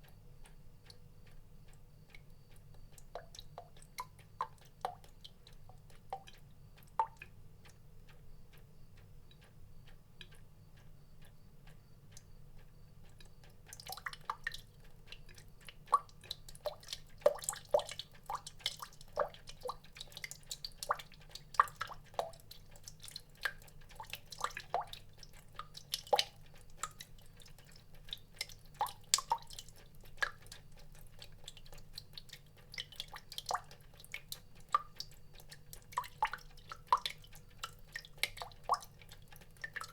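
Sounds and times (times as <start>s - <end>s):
water drops dripping: 0.0s - 39.9s.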